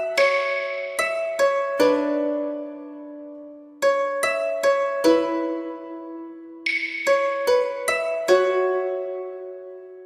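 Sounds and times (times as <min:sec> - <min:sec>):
harp-like plucked string notes: 0:00.0 - 0:10.0.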